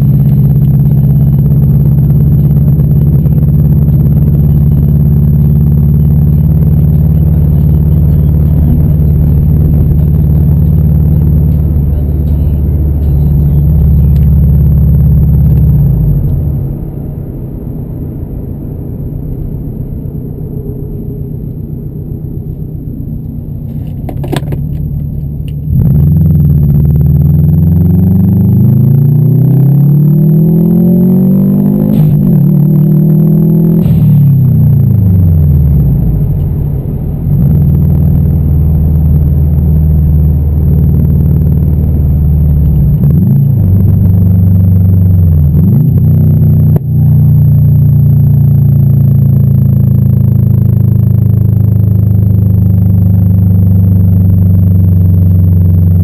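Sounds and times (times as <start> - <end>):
car engine droning from inside: 0.0 - 56.0.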